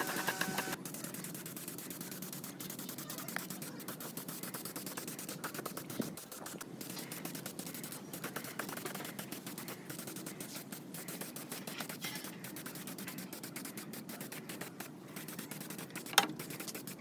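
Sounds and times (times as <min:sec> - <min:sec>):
rapid scratchy scraping: 0:00.0 - 0:17.0.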